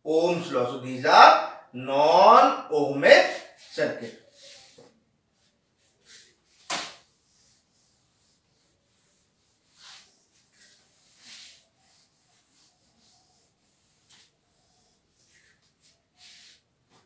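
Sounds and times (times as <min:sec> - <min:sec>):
cloth wiping whiteboard: 0:03.0 - 0:17.0.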